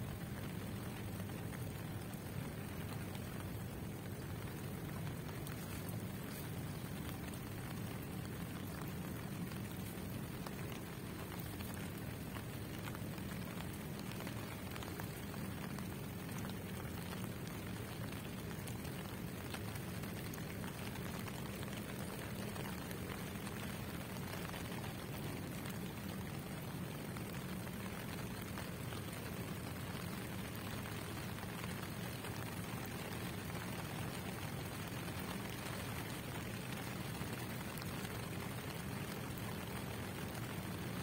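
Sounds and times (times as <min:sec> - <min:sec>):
rain hissing on pavement: 0:00.0 - 0:41.0.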